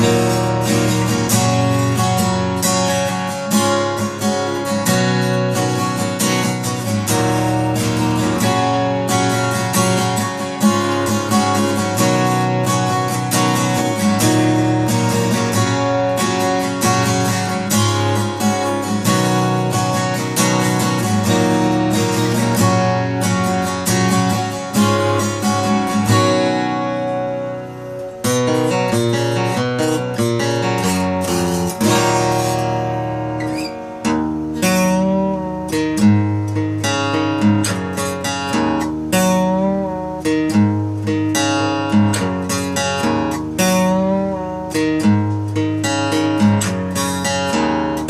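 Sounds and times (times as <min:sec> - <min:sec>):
acoustic guitar strumming: 0:00.0 - 0:48.0
guitar picked notes: 0:00.0 - 0:48.0.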